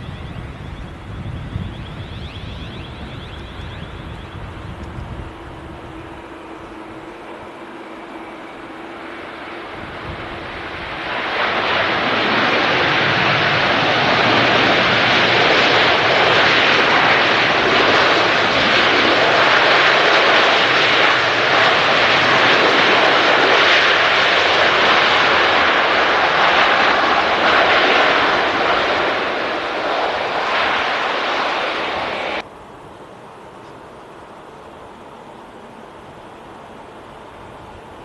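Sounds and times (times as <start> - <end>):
jet airliner engine roar: 0.0 - 38.0.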